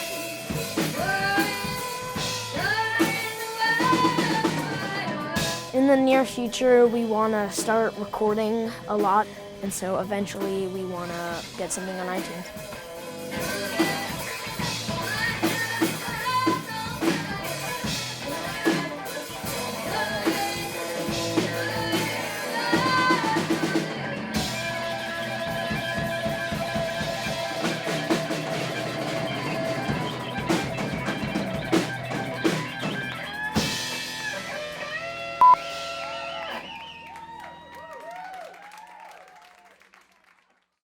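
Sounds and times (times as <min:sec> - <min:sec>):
drum kit steady beat: 0:00.0 - 0:36.0
rock band playing: 0:00.0 - 0:37.8
electric guitar: 0:00.0 - 0:38.6.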